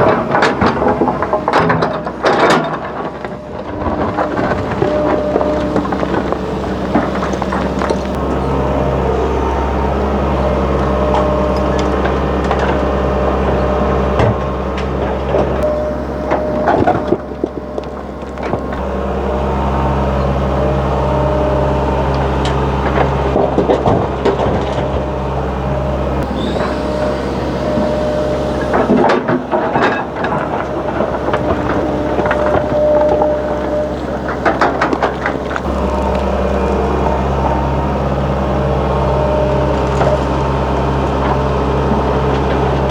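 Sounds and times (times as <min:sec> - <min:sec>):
diesel excavator running: 0:00.0 - 0:42.9.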